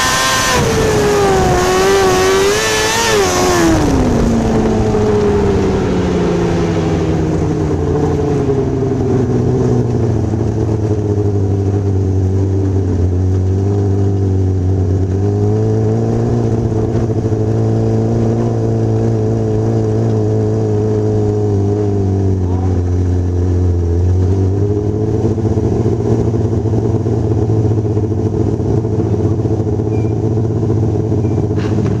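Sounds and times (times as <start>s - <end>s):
vehicle engine running at low revs: 0.0s - 32.0s.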